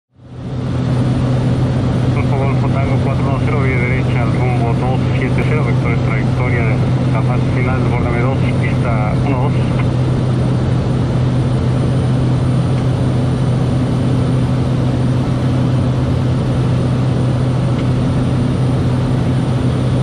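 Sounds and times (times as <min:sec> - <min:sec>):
turboprop engine in flight: 0:00.1 - 0:20.0.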